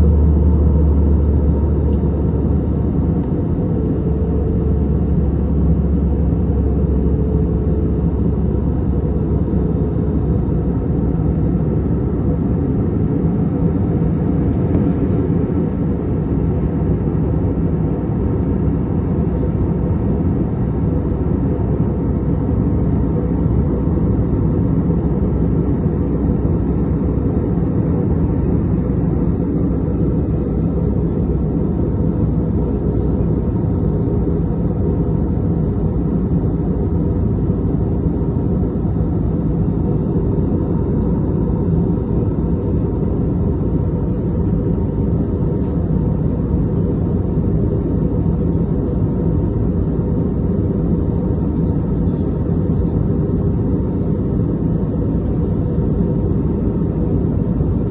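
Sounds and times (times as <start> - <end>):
airliner cabin engine rush: 0.0 - 57.9.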